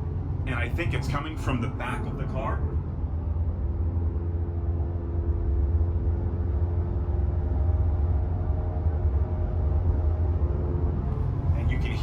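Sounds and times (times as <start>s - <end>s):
low road rumble: 0.0s - 12.0s.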